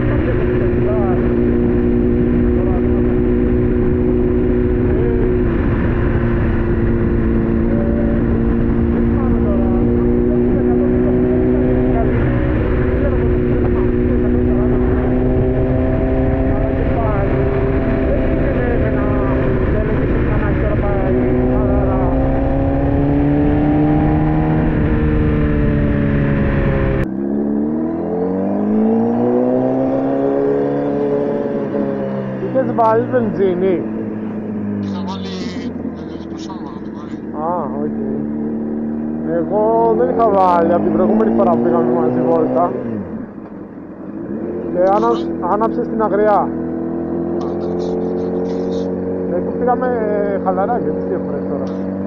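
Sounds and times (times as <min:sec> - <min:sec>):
motorcycle engine cruising: 0:00.0 - 0:52.0.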